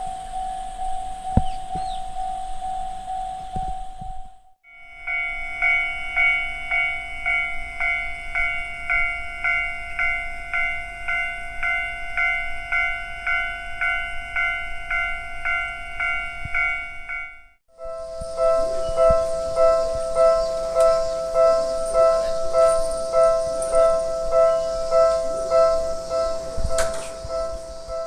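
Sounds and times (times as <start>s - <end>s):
level crossing warning bell: 4.6s - 28.0s.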